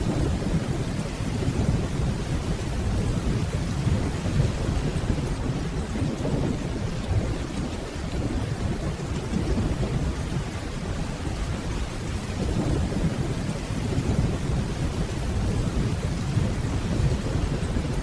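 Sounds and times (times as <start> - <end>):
distant rolling thunder: 0.0 - 18.0
steady rainfall: 0.0 - 18.0.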